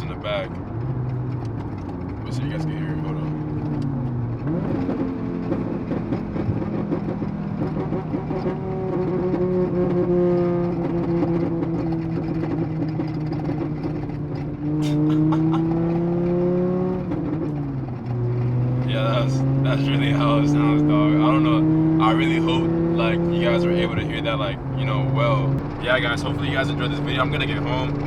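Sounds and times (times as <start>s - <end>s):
car engine droning under load: 0.0s - 28.0s.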